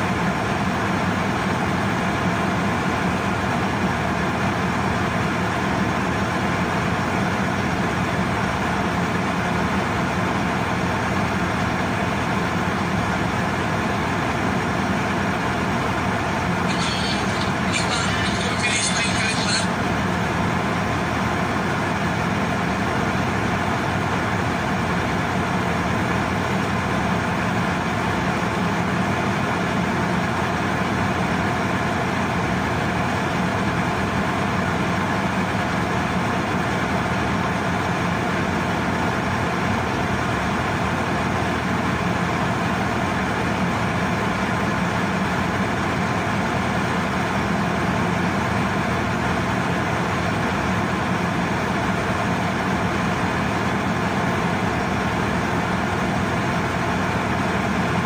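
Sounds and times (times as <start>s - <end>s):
diesel engines droning: 0.0s - 58.0s.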